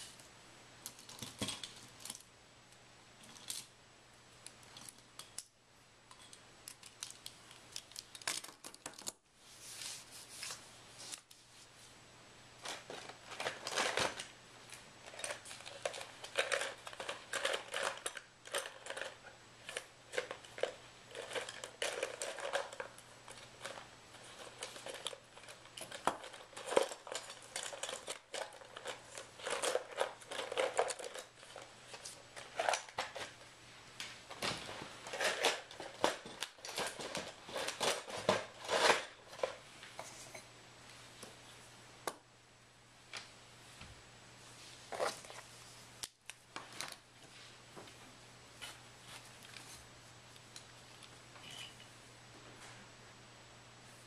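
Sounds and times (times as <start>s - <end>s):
objects handled at a table: 0.0s - 2.3s, 4.4s - 12.0s, 12.6s - 42.2s, 43.1s - 52.0s
faint steady hum: 0.0s - 54.0s.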